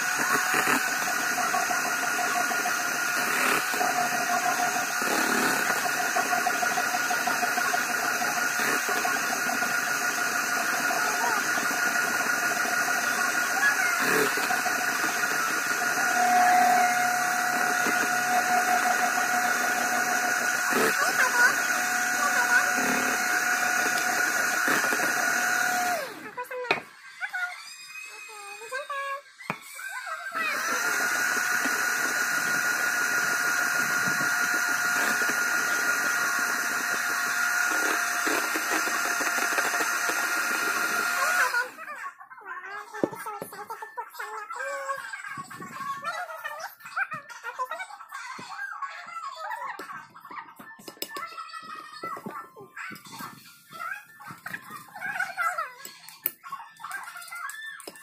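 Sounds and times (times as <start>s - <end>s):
electric hand mixer whining: 0.0s - 42.0s, 50.8s - 58.0s.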